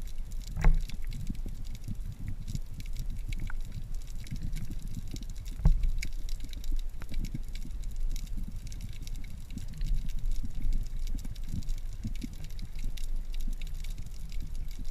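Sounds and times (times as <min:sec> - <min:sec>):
faint clicks and crackle: 0:00.0 - 0:14.9
low underwater rumble: 0:00.0 - 0:14.9.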